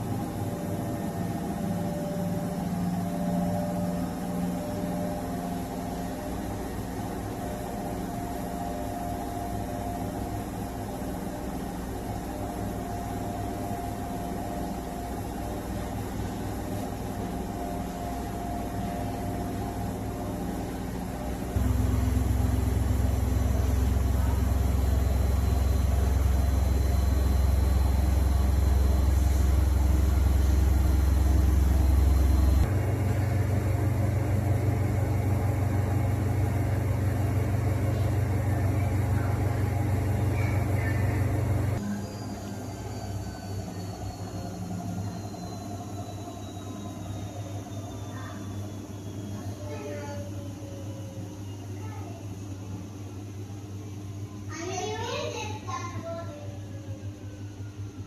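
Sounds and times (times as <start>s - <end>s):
washing machine running: 0.0s - 58.0s.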